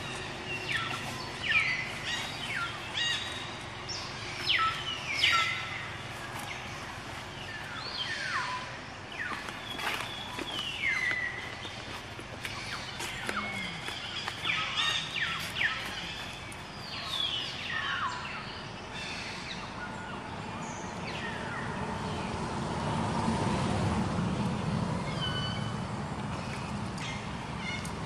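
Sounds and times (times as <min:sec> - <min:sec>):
birds chirping: 0:00.0 - 0:23.0, 0:24.4 - 0:28.0
distant traffic rumble: 0:00.0 - 0:28.0.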